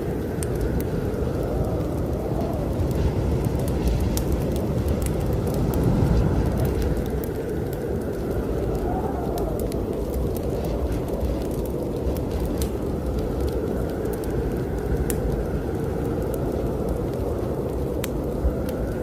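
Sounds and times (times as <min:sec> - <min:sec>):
strong wind blowing: 0:00.0 - 0:19.0
wood fire crackling: 0:00.0 - 0:19.0.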